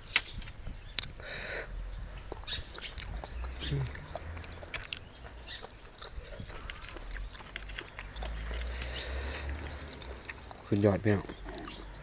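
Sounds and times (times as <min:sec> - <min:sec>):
person chewing wet food: 0:00.8 - 0:12.0
sharp mouth clicks: 0:01.0 - 0:12.0.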